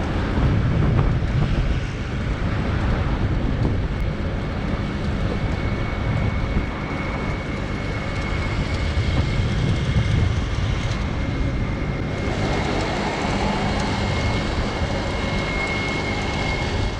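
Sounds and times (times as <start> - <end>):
thin constant whine: 0.0 - 16.9
train rumble: 0.0 - 16.9.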